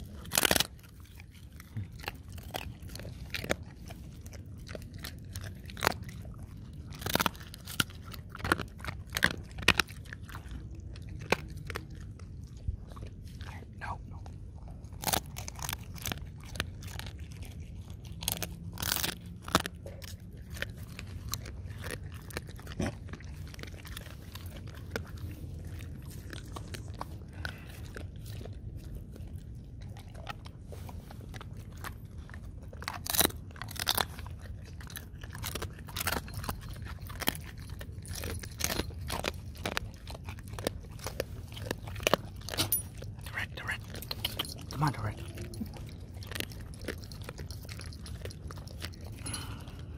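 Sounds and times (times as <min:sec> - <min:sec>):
dogs crunching food: 0:00.0 - 0:49.9.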